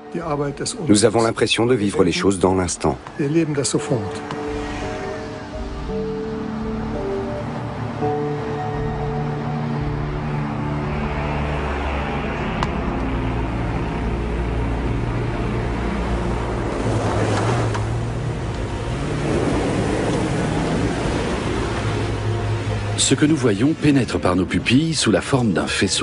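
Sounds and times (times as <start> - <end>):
background music of low notes: 0.0 - 26.0
car passing by: 1.9 - 25.4.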